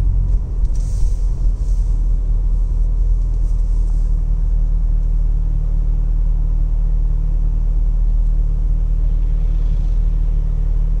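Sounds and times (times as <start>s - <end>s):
car cabin low rumble: 0.0s - 11.0s.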